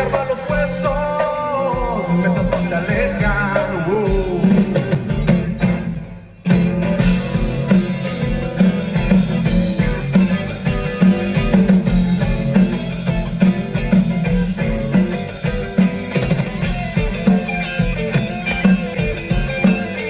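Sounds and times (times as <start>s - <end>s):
drum kit beat: 0.0s - 20.0s
electric guitar: 0.0s - 20.0s.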